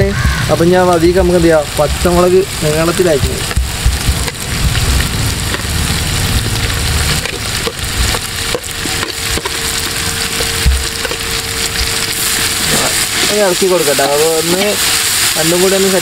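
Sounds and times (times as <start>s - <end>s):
onions sizzling in hot oil: 0.0s - 16.0s
chillies popping in oil: 0.2s - 16.0s.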